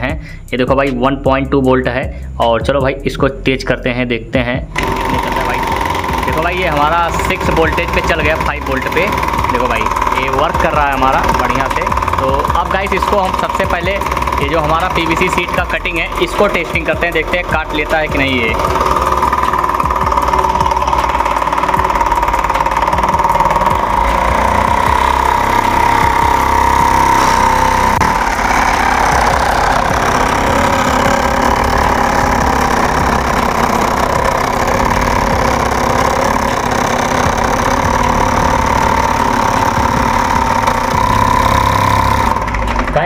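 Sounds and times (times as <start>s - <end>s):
scroll saw high whine: 4.7s - 43.0s.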